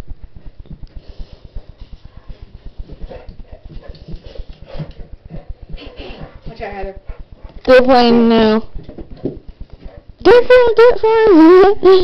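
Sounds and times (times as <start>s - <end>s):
dogs panting and snuffling: 0.2s - 10.2s.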